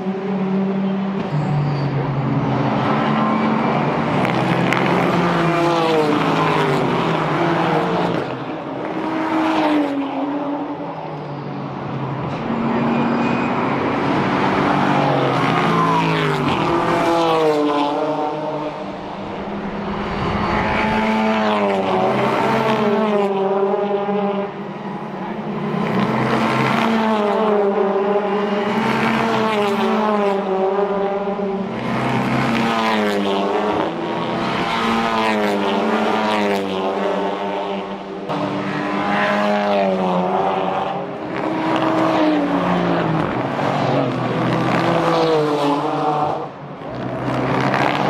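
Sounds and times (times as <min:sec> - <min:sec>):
race cars accelerating past: 0:00.0 - 0:48.0.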